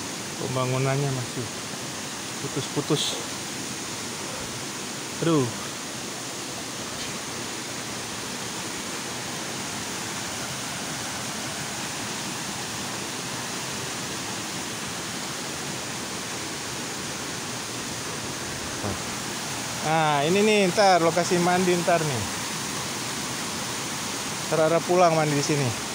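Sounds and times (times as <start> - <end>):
stream rushing over rocks: 0.0 - 25.9.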